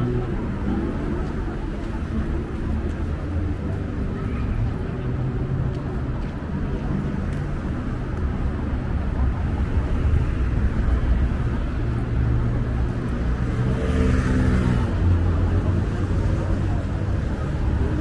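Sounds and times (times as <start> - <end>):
car engines rumbling: 0.0 - 18.0.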